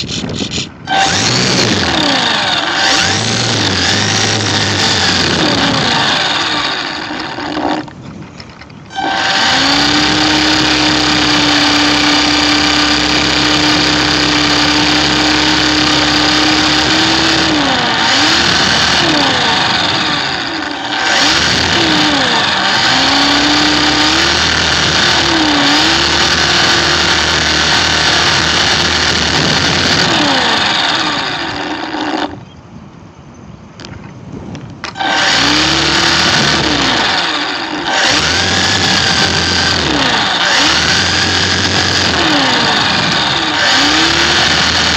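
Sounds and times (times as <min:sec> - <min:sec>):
electric model plane motor whine: 0:00.1 - 0:08.0, 0:08.9 - 0:32.4, 0:34.8 - 0:44.9.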